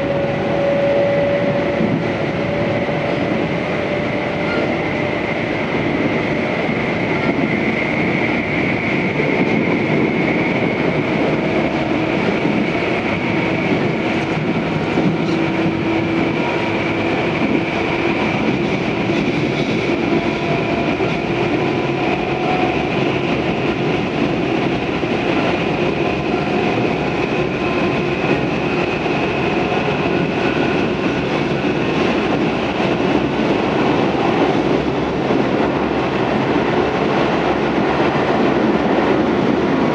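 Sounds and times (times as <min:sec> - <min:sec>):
wheels rumbling on rail: 0:00.0 - 0:39.9.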